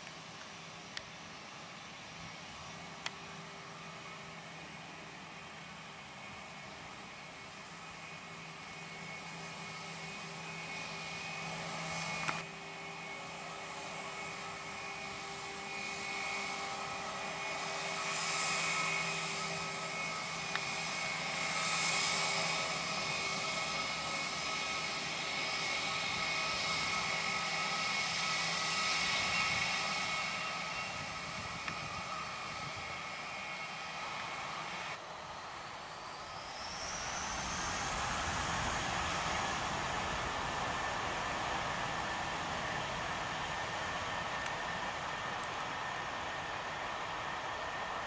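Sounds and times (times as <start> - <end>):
airliner engines whining: 0.0 - 48.0.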